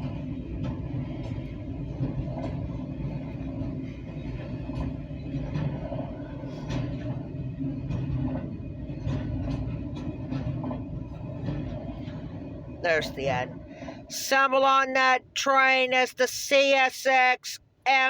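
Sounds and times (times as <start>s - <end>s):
freight cars rolling rumble: 0.0s - 15.4s.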